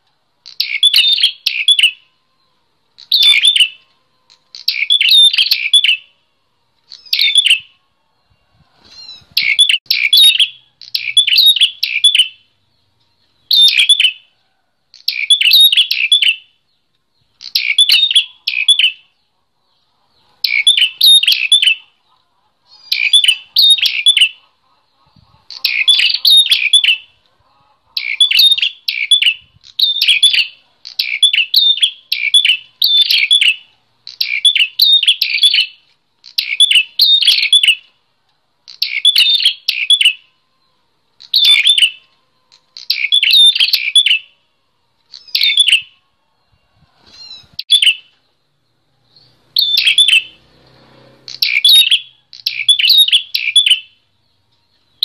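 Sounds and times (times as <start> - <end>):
bird singing high chattering notes: 0.4 - 6.2, 6.9 - 7.8, 9.0 - 14.3, 15.0 - 19.3, 20.2 - 21.9, 22.7 - 27.2, 27.9 - 37.9, 38.7 - 40.4, 41.2 - 44.4, 45.1 - 46.0, 47.2 - 48.2, 49.0 - 50.5, 51.1 - 55.0.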